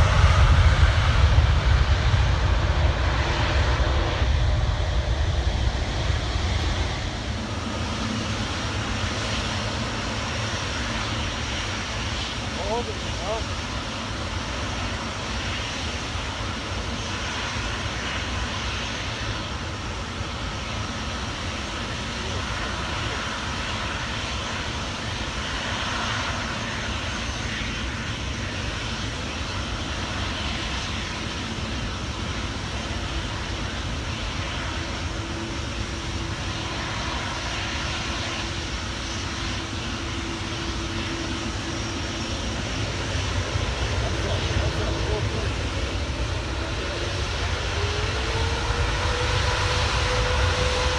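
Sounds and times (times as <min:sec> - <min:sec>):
aircraft engines running: 0:00.0 - 0:50.9.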